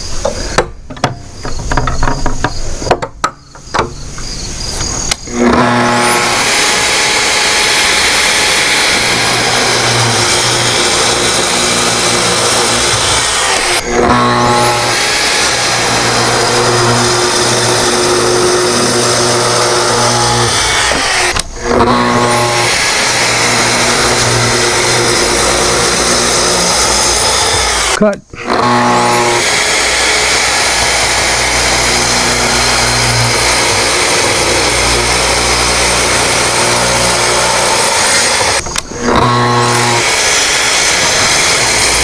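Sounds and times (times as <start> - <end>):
saw motor whine: 4.2 - 42.0
track saw cutting wood: 4.2 - 42.0.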